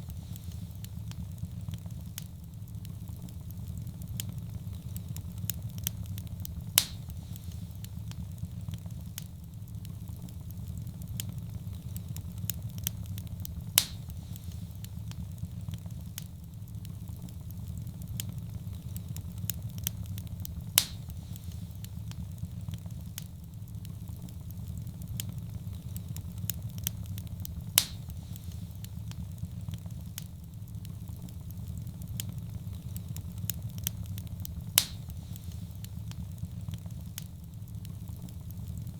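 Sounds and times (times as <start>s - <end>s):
fire crackling: 0.0s - 38.9s
fire rumbling: 0.0s - 38.9s
sharp fire pops: 0.0s - 38.9s.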